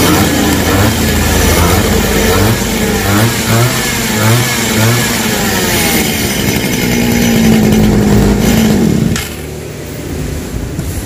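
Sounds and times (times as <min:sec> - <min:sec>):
small two-stroke engine revving: 0:00.0 - 0:10.8.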